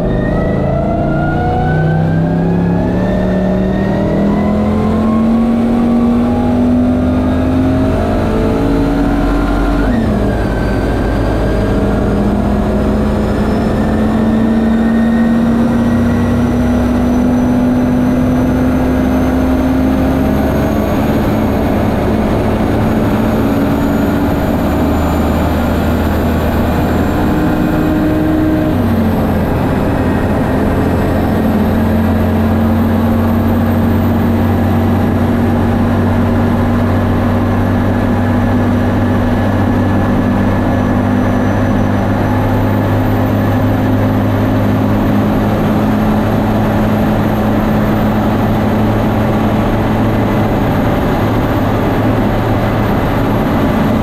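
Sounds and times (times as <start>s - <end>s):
heavy wind noise: 0.0s - 54.0s
truck engine running hard: 0.0s - 54.0s.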